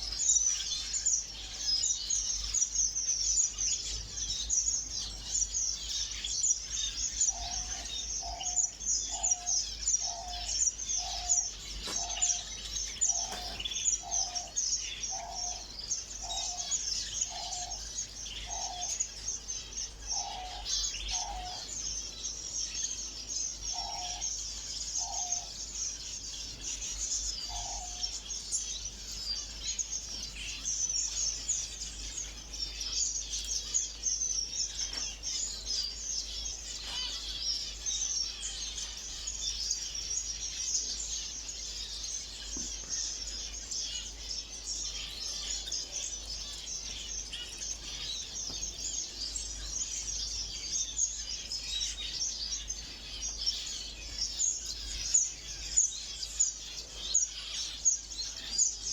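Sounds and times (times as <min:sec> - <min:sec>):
small birds chirping and twittering: 0:00.0 - 0:58.9.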